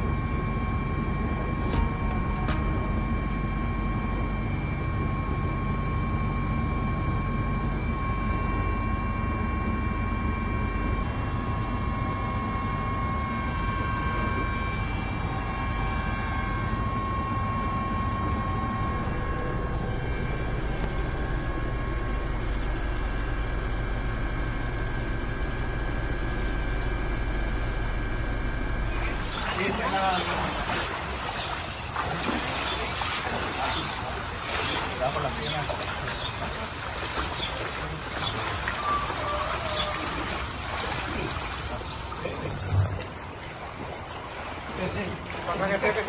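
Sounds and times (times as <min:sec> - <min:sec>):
engine drone with high whine: 0:00.0 - 0:46.0.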